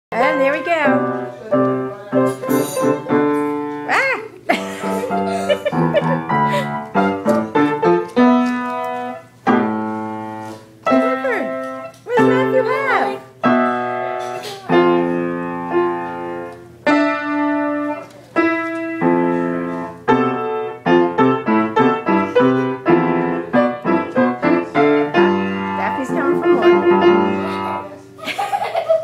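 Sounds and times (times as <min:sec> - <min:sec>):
piano music: 0:00.1 - 0:28.2.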